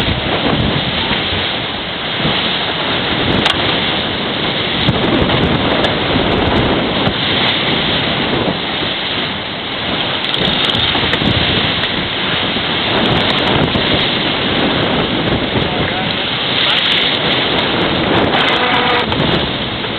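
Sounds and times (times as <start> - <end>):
water rushing past hull: 0.0 - 19.9
wind buffeting microphone: 0.0 - 19.9.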